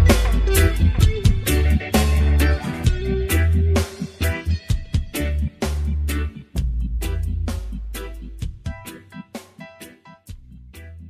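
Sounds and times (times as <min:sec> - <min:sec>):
reggae music with heavy bass: 0:00.0 - 0:11.0.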